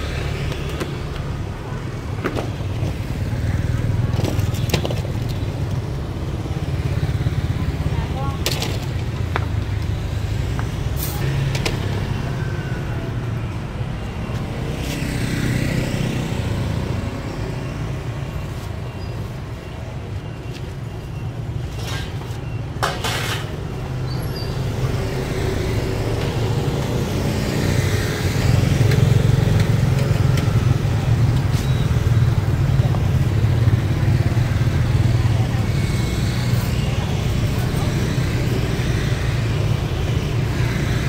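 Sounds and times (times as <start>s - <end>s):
motorbike traffic passing: 0.0s - 41.0s.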